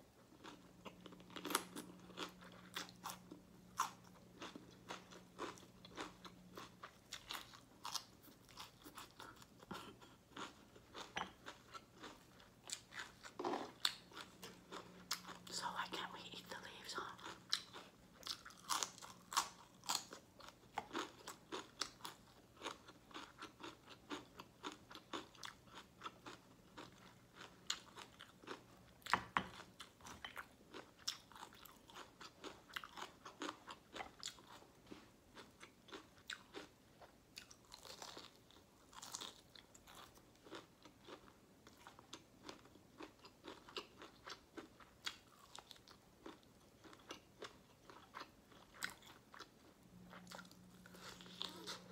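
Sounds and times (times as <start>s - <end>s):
crunching and chewing food: 0.0s - 51.9s.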